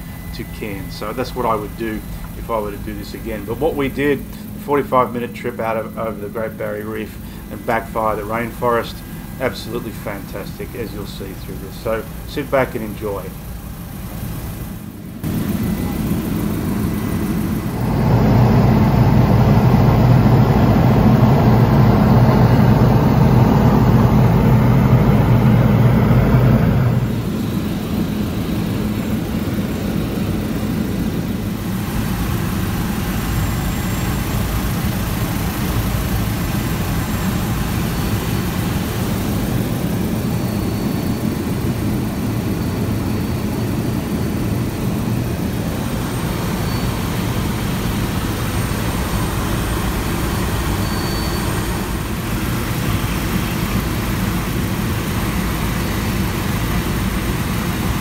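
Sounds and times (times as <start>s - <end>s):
helicopter in flight: 0.0s - 58.0s.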